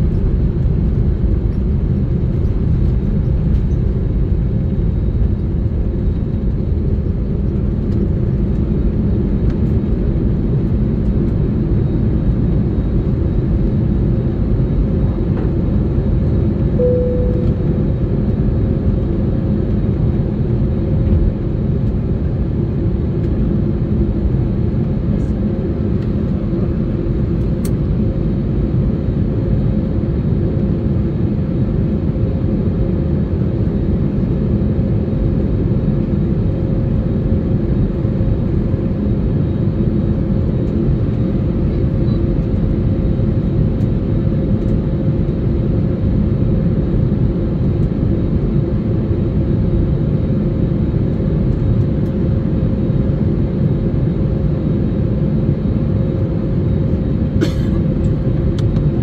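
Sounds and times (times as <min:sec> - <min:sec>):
constant cabin hum: 0:00.0 - 0:59.0
jet engines and rushing air roaring: 0:00.0 - 0:59.0.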